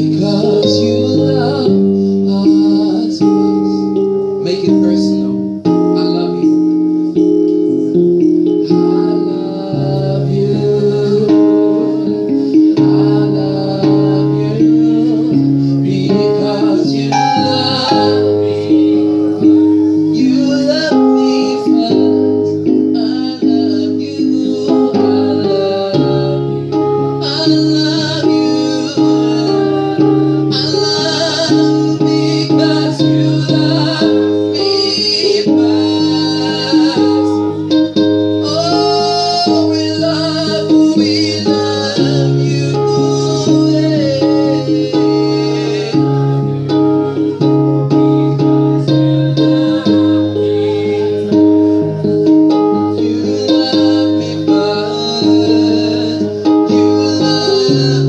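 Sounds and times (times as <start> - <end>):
band playing worship music: 0.0 - 58.0
person singing: 0.0 - 58.0.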